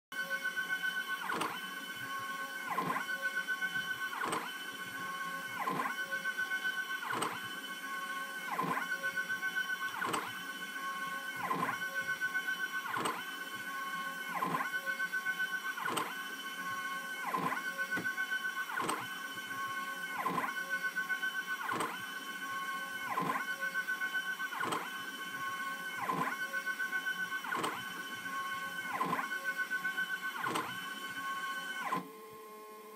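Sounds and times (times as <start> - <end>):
stepper motors whining: 0.2 - 32.4.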